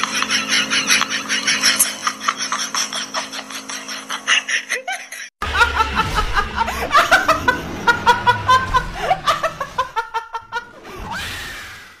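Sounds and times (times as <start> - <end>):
young woman laughing hard: 0.0 - 10.8.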